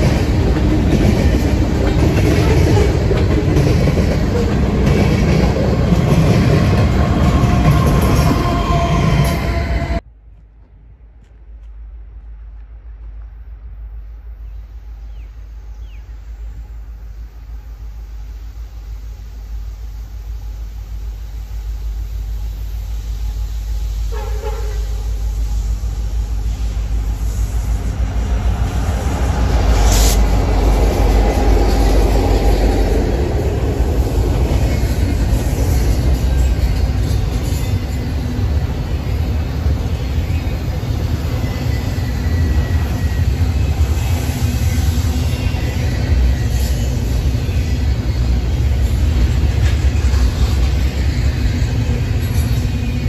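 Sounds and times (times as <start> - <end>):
freight train locomotive rumble: 0.0 - 53.0.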